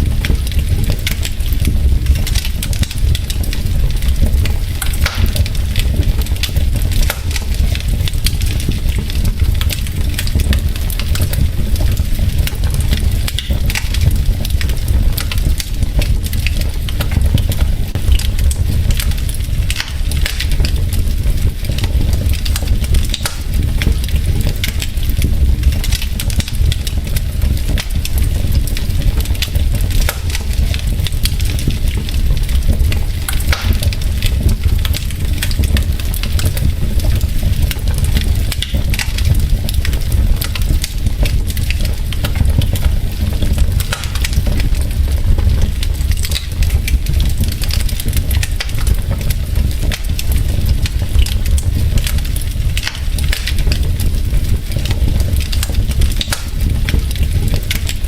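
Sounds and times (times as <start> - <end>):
fire rumbling: 0.0 - 58.0
wood crackling and popping: 0.0 - 58.0.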